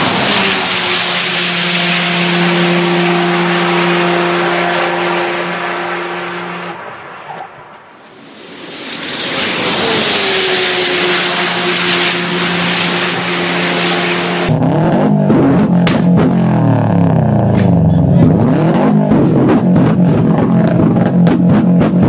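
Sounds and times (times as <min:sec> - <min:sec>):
race car engine at high revs: 0:00.0 - 0:07.7, 0:09.0 - 0:22.0.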